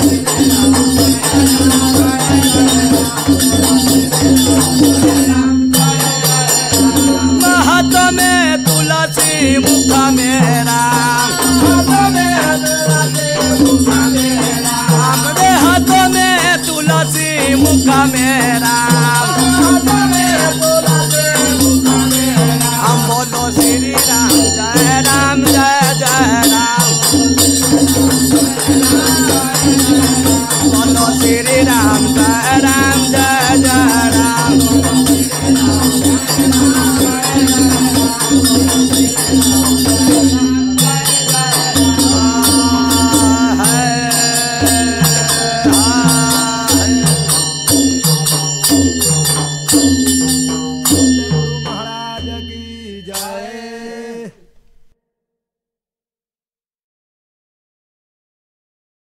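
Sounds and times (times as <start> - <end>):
small hand cymbals: 0.0 - 53.6.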